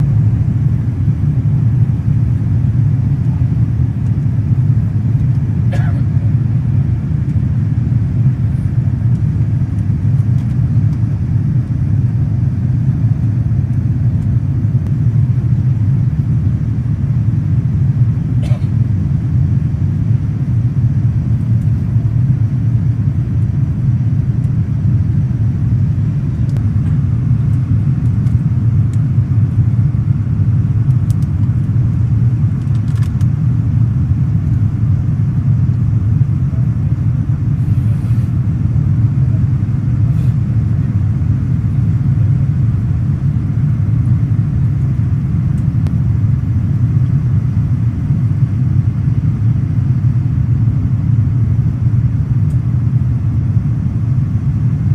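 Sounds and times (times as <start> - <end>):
jet engine cabin rumble: 0.0 - 54.9.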